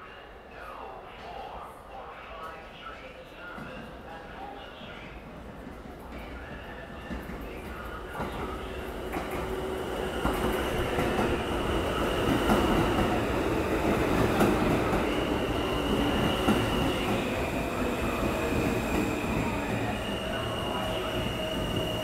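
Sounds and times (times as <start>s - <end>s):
subway train rumbling past: 0.0s - 22.0s.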